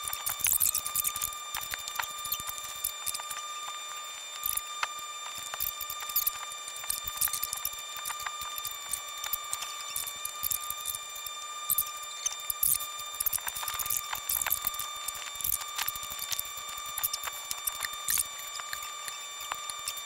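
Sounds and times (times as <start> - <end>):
constant high whine: 0.0 - 20.0
tiny clicks and squeaks: 0.0 - 20.0.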